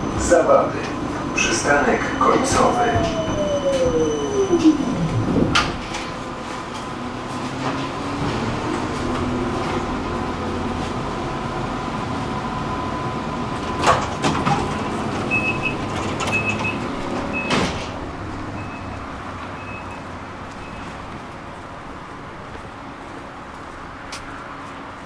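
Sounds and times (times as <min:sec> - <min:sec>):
tram motor whine and rolling: 0:00.0 - 0:25.0.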